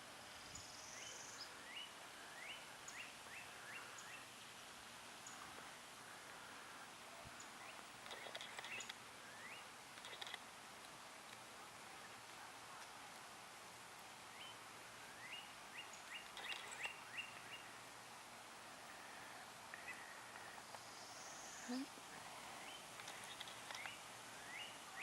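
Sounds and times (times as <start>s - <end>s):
faint outdoor background noise: 0.0s - 25.0s.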